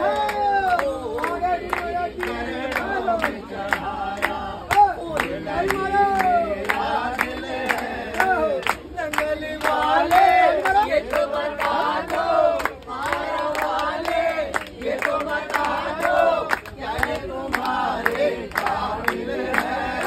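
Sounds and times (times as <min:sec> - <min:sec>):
hand-clapping beat: 0:00.0 - 0:20.0
group singing devotional song: 0:01.2 - 0:20.0.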